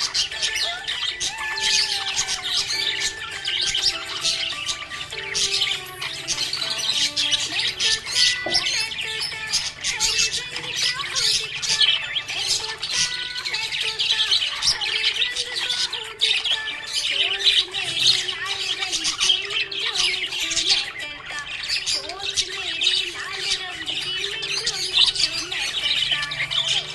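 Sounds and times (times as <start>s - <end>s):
budgerigars chirping and squawking: 0.0s - 26.9s
soft music with held notes: 0.0s - 26.9s.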